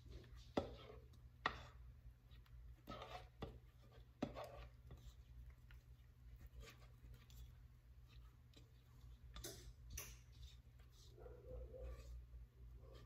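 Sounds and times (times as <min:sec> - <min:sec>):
scraping a bowl: 0:00.0 - 0:13.0.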